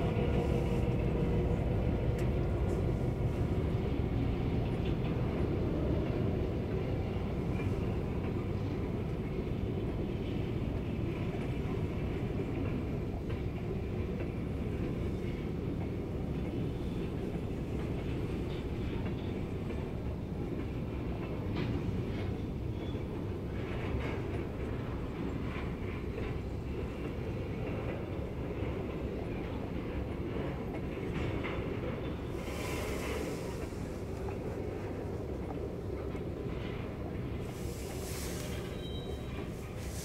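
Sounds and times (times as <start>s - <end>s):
train clicks and clanks: 0.0s - 40.0s
train wheels rumbling on rails: 0.0s - 40.0s.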